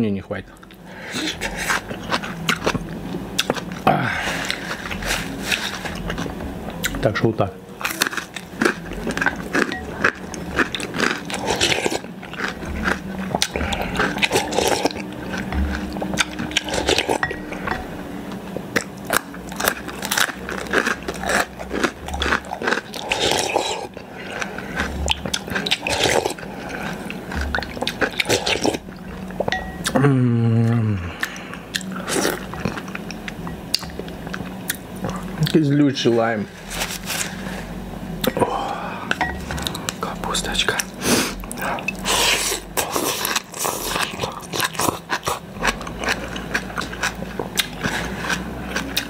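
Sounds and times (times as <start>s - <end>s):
wet chewing and crunching: 0.5s - 7.1s, 7.8s - 30.0s, 31.2s - 37.6s, 38.2s - 49.0s.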